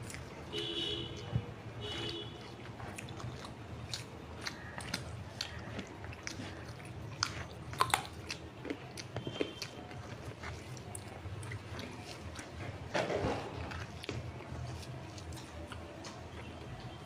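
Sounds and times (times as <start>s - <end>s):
chewing and mouth sounds: 0.0s - 17.0s.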